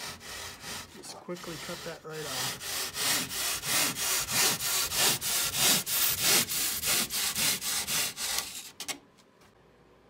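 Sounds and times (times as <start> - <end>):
handsaw rasping through foam: 0.0 - 8.7.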